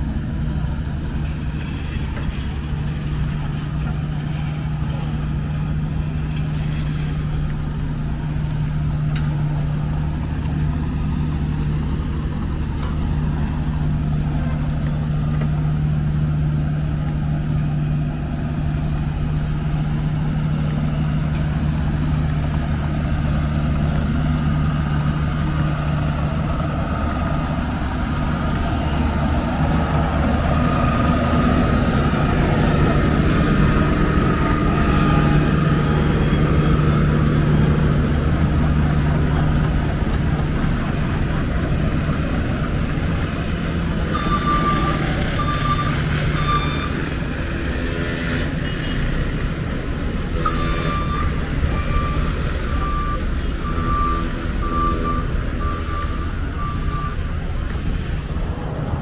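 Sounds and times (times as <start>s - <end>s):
diesel engines humming: 0.0s - 59.0s.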